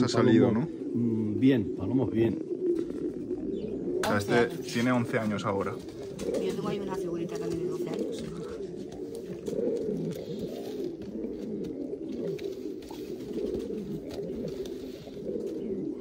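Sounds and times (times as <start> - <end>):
pigeon cooing: 0.0 - 16.0.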